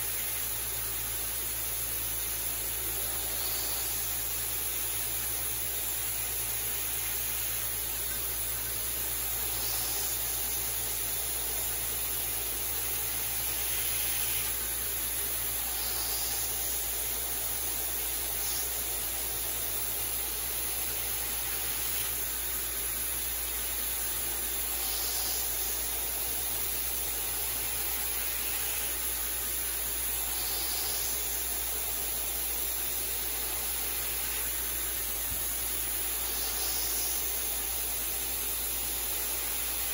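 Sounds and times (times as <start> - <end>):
mist coolant hiss: 0.0 - 39.9.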